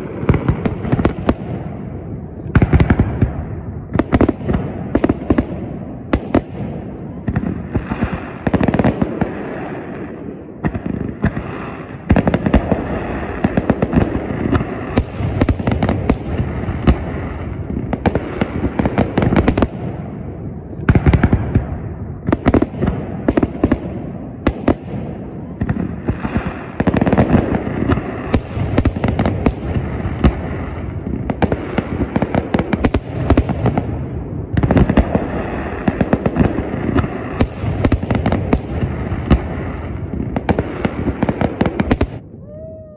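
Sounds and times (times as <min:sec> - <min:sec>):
fireworks bursting: 0:00.0 - 0:42.7.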